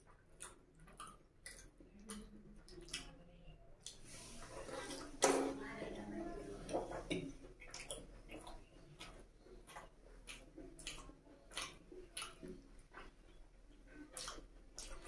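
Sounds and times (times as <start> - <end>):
person chewing food: 0.0 - 5.2, 6.6 - 15.0.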